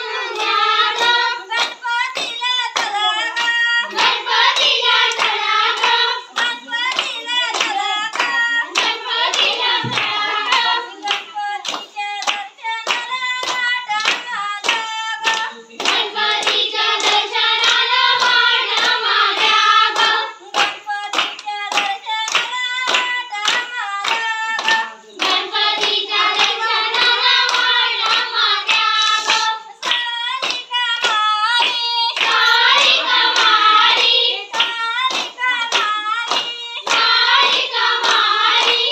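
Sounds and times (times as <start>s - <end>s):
rhythmic handclaps: 0.0s - 38.9s
women singing together: 0.0s - 38.9s.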